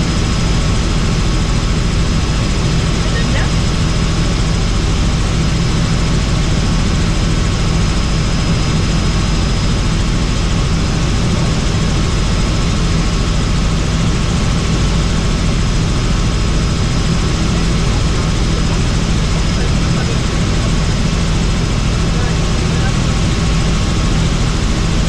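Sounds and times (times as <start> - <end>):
helicopter engine and rotor drone: 0.0 - 25.0.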